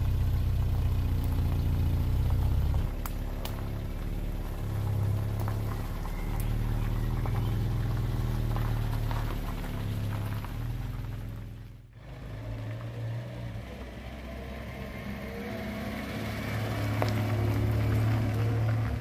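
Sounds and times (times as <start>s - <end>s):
car driving slowly: 0.0s - 19.0s
car engine idling: 0.0s - 19.0s.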